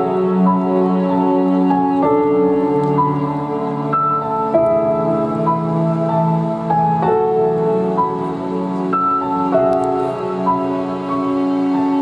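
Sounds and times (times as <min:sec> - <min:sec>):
slow gentle instrumental music: 0:00.0 - 0:12.0.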